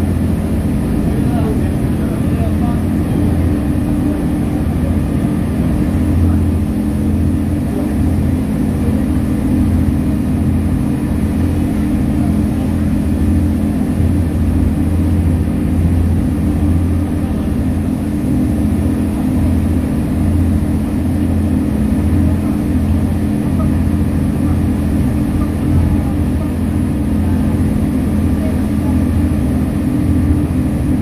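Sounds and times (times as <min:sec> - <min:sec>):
ferry engine droning: 0:00.0 - 0:31.0.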